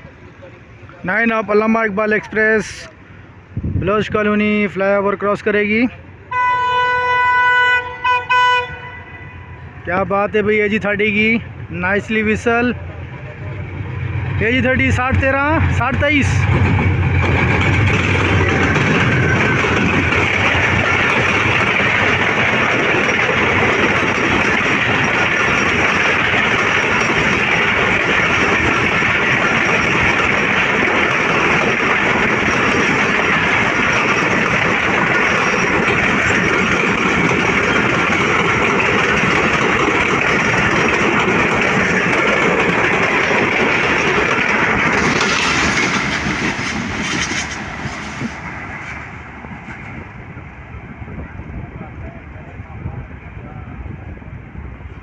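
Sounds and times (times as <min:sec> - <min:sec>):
train wheels rumbling on rails: 0:09.6 - 0:55.0.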